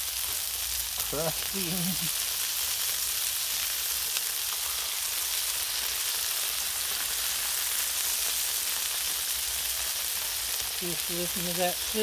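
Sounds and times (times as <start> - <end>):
patties sizzling on a griddle: 0.0 - 12.0.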